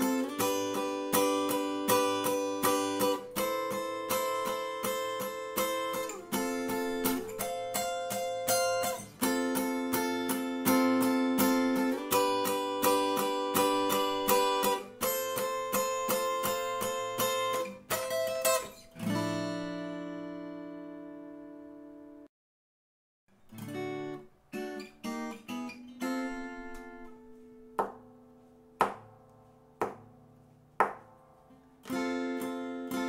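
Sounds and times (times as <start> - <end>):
acoustic guitar playing: 0.0 - 22.3, 23.3 - 33.0.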